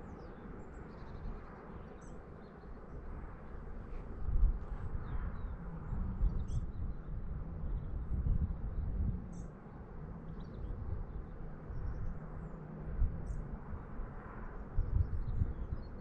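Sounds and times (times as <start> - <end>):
small birds chirping faintly: 0.0 - 16.0
wind buffeting microphone: 3.0 - 16.0.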